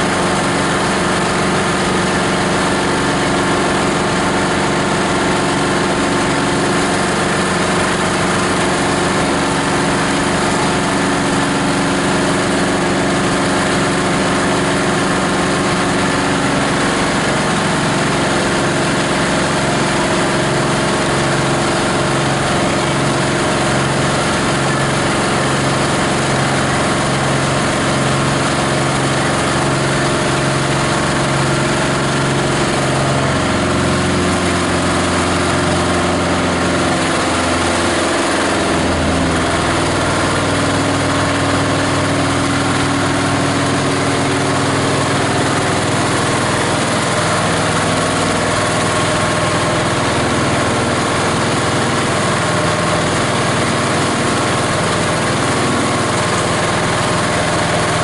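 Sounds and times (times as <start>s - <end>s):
diesel engine running: 0.0s - 58.0s
grinder machine clatter: 0.0s - 58.0s.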